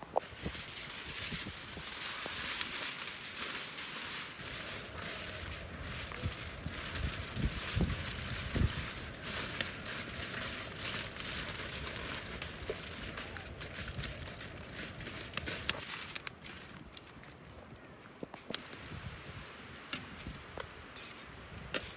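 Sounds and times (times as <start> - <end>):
aluminium foil crinkling: 0.1 - 21.9.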